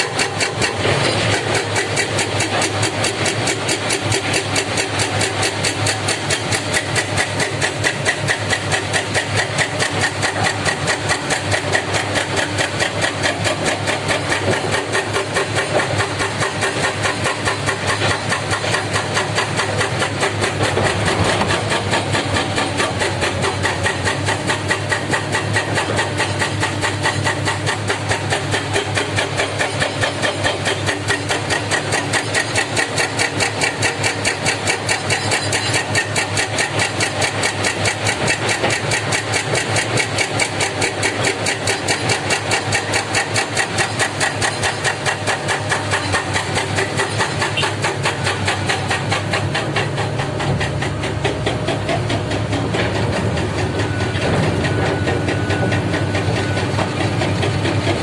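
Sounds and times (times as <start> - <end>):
heavy diesel engine throbbing: 0.0 - 58.0.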